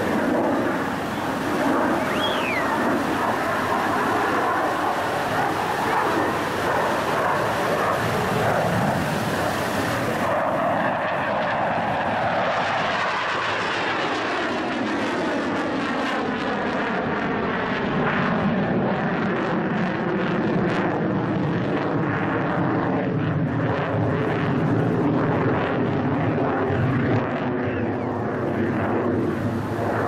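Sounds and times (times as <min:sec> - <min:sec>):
jet engine roaring on afterburner: 0:00.0 - 0:30.0.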